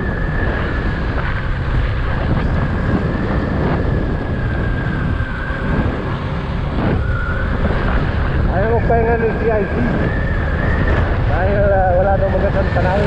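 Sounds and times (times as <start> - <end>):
high-pitched whine: 0.0 - 13.0
wind rushing over microphone: 0.0 - 13.0.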